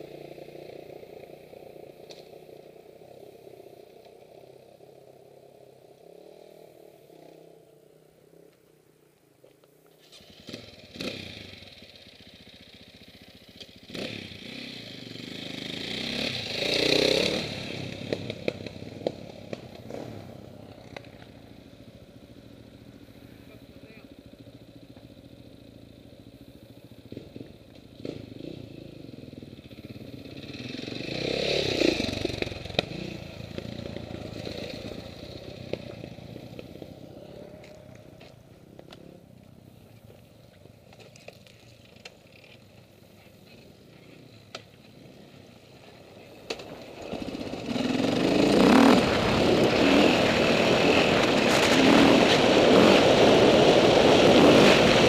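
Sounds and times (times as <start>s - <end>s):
dirt bike engine: 0.0s - 55.0s.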